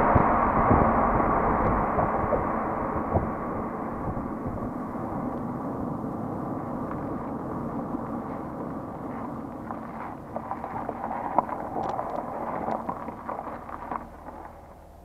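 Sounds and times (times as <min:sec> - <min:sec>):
car exhaust drone: 0:00.0 - 0:15.0
road rush: 0:00.0 - 0:15.0.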